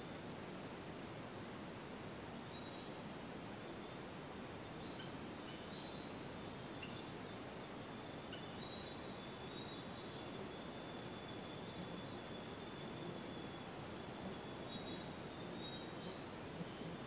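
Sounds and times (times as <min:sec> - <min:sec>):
outdoor ambience hiss: 0:00.0 - 0:17.0
distant songbirds chirping: 0:02.2 - 0:17.0.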